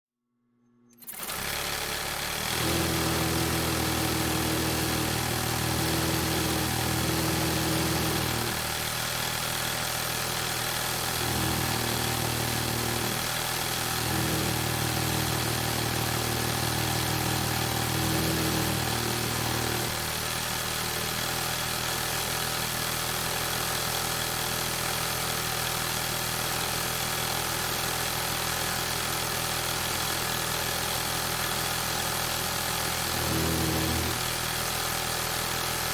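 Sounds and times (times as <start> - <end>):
industrial sewing machine running: 1.0 - 35.9.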